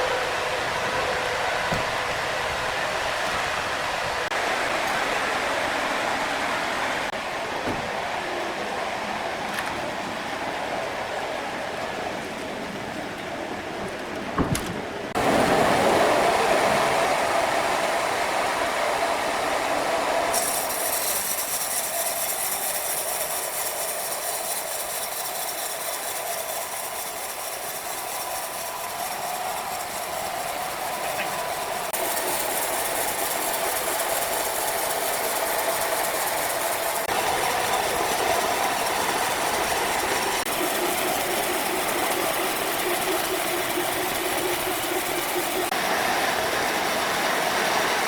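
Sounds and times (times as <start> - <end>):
sawmill machinery running: 0.0 - 48.0.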